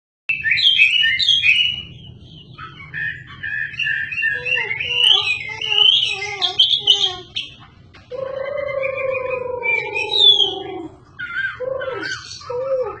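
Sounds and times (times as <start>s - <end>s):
lower warbling bird: 0.3s - 13.0s
songbird singing: 0.3s - 13.0s.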